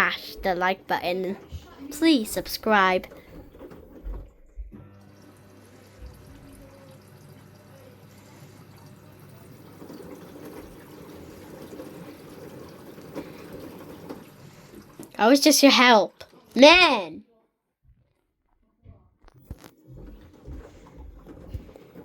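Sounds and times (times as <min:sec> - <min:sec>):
water sloshing in washing machine: 0:00.0 - 0:17.0, 0:19.4 - 0:22.0.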